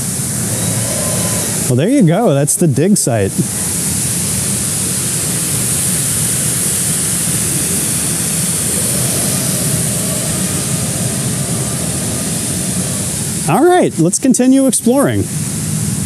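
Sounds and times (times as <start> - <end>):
waterfall splashing: 1.2 - 16.0.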